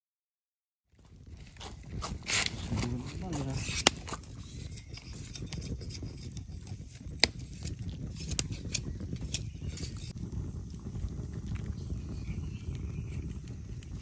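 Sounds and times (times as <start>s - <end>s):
wood fire crackling: 0.9s - 14.0s.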